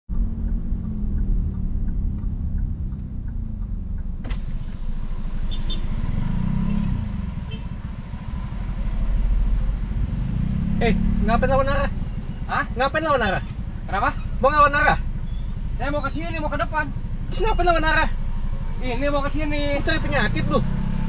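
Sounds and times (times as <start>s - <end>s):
car engine: 0.1s - 21.0s
road rumble: 0.1s - 21.0s.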